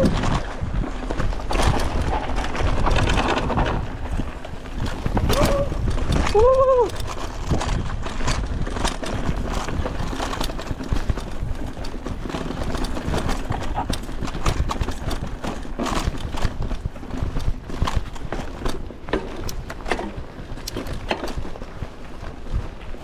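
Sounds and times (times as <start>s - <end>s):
chain and frame rattle: 0.0s - 22.8s
mountain bike rattling over rocks: 0.0s - 23.0s.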